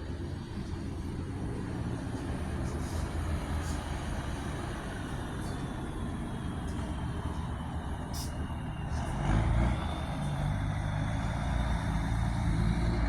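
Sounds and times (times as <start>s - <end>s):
diesel coach engine rumbling: 0.0s - 13.0s.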